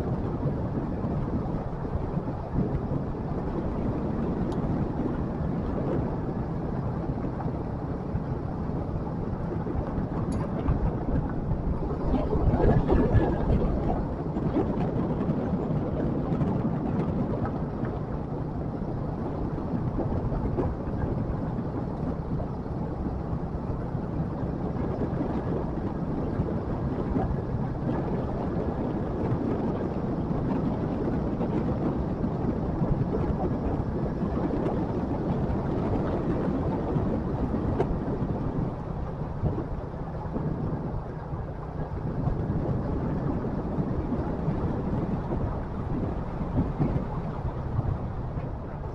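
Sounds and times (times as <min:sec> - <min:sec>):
road noise: 0:00.0 - 0:31.2, 0:31.9 - 0:48.9
wind: 0:00.0 - 0:48.9.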